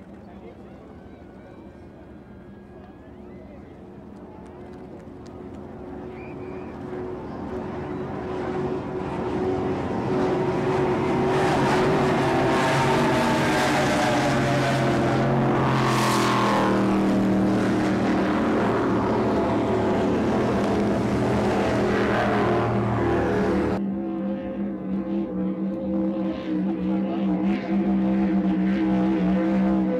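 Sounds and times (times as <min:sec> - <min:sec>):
powerboat engines roaring: 0:00.0 - 0:29.9.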